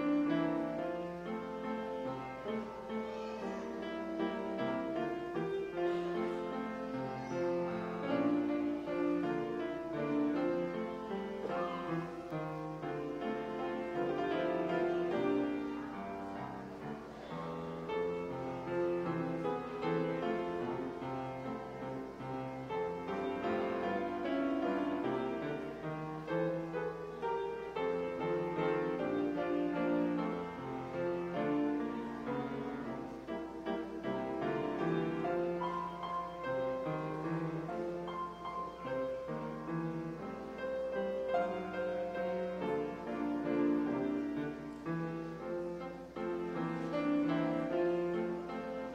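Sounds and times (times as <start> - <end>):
grand piano chords: 0.0 - 48.9.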